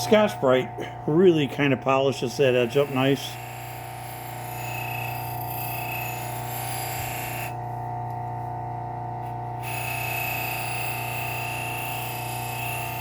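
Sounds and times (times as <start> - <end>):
sander humming: 0.0 - 13.0.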